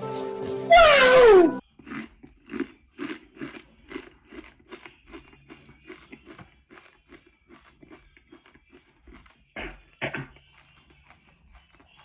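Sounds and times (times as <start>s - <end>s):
person chewing crunchy chip: 1.6s - 12.0s.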